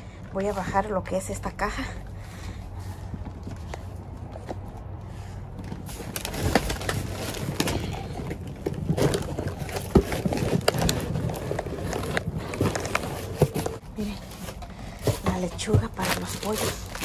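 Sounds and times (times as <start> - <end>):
cardboard box rustling and scraping: 2.8 - 17.0.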